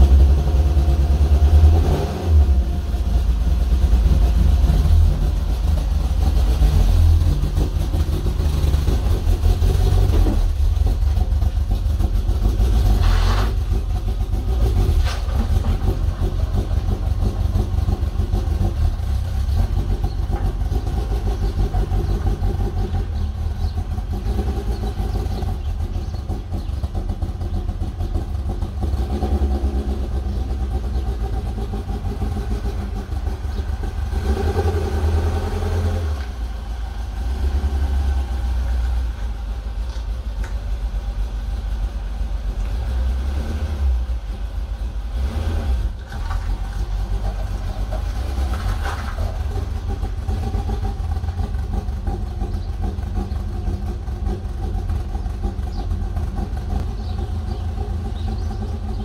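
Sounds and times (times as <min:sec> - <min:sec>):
car engine at low revs: 0:00.0 - 0:59.0.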